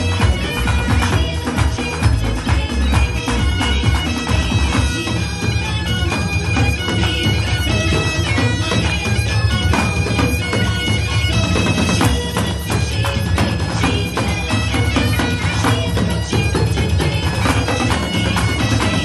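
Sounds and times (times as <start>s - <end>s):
bagpipes playing a tune: 0.0s - 19.0s
snare and tenor drums beating: 0.0s - 19.0s.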